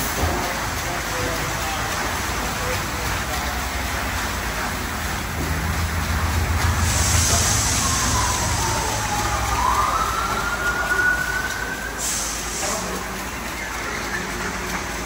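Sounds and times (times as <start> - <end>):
car wash brushes spinning: 0.0 - 15.0
water spray hissing: 1.0 - 15.0
steady low hum: 1.8 - 15.0.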